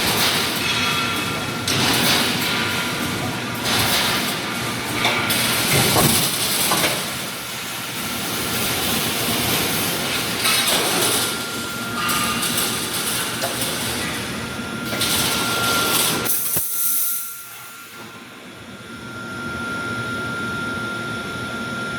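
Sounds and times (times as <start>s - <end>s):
welding machine running: 0.0s - 17.7s.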